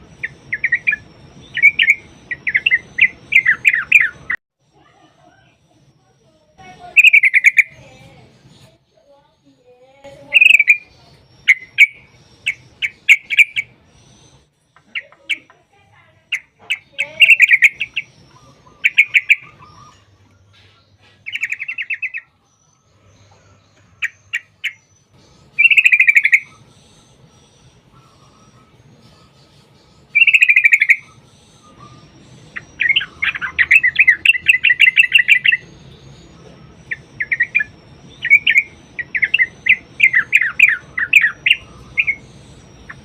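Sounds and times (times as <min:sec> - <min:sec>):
bird chattering trills and chips: 0:00.0 - 0:04.4, 0:06.6 - 0:09.4, 0:10.1 - 0:43.0.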